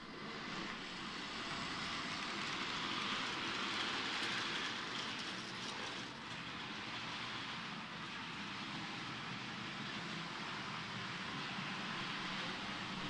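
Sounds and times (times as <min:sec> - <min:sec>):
model trains whirring on track: 0:00.0 - 0:13.0.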